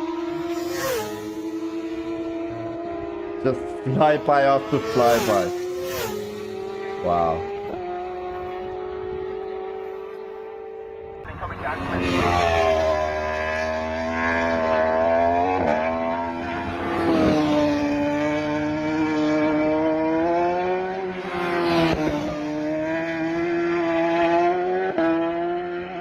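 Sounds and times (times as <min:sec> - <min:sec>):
racing motorcycle engine revving: 0:00.0 - 0:26.0.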